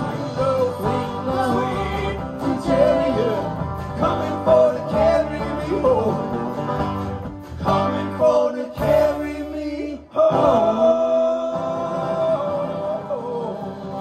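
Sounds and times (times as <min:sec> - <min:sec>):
live band playing: 0:00.0 - 0:14.0
plucked guitar: 0:00.0 - 0:14.0.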